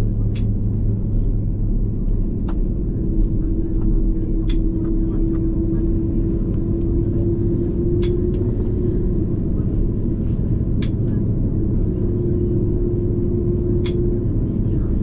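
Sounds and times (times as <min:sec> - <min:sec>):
low rumble of aircraft engines: 0:00.0 - 0:15.0
steady hum: 0:00.0 - 0:15.0.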